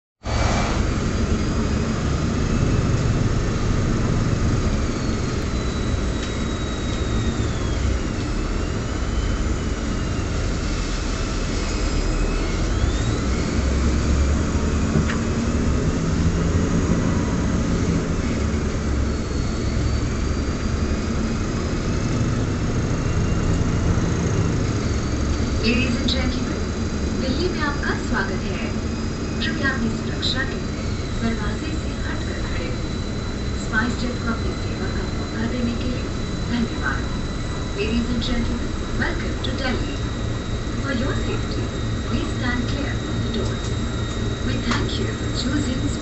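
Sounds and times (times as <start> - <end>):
bus engine and tyres rumbling: 0.2 - 46.0
thin high whines: 0.3 - 46.0.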